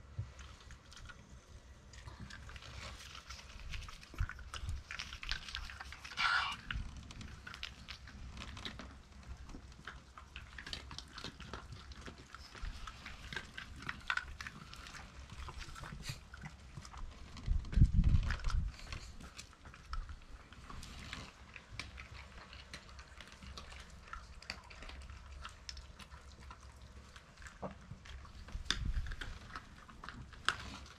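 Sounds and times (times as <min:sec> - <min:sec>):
small scattered clicks and ticks: 0:00.0 - 0:30.9.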